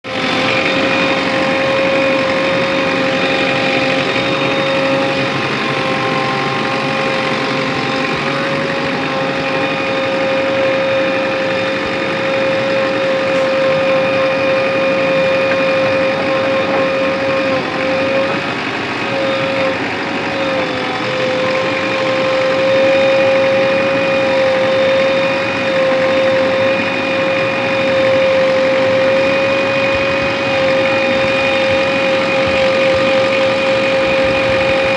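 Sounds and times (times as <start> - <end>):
diesel engine whining under load: 0.0 - 34.9.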